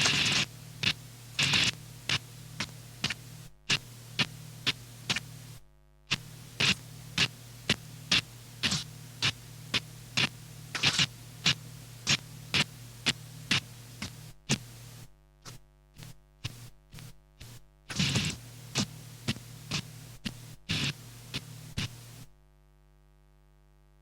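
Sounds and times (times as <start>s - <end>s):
bursts of static: 0.0s - 15.1s, 16.0s - 22.3s
steady electrical hum: 0.0s - 24.0s.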